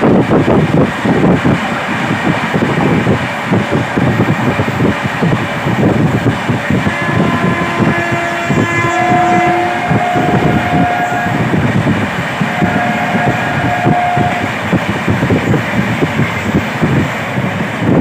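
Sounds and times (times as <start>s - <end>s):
train rumble with wheel clatter: 0.0s - 18.0s.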